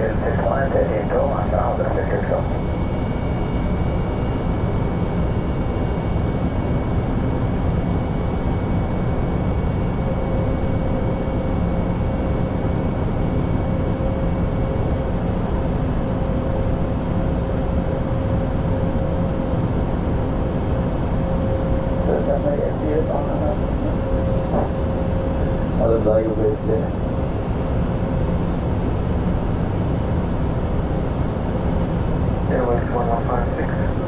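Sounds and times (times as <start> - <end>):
airflow and air conditioning rush: 0.0 - 34.0.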